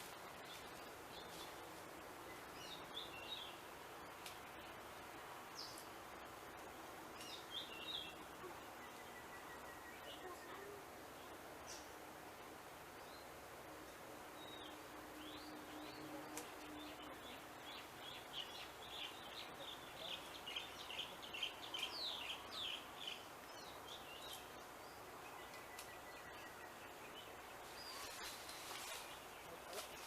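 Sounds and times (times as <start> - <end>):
faint background noise: 0.0 - 30.0
bird chirping: 0.2 - 4.8, 7.2 - 11.9, 14.4 - 30.0.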